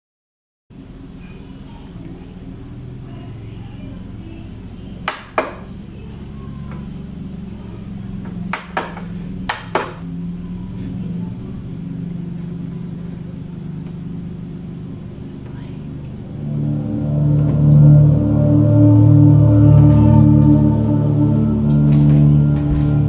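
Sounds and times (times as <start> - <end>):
steady low hum: 0.7 - 23.0.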